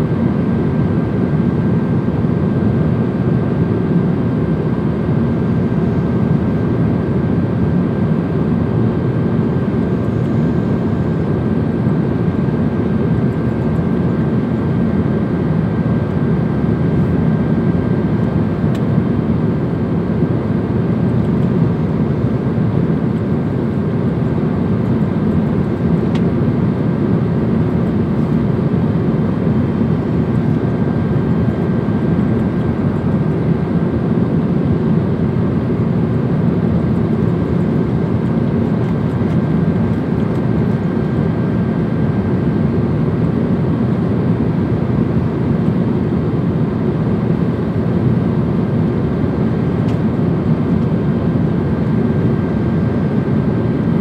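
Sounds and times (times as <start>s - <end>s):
airliner cabin engine rush: 0.0s - 54.0s.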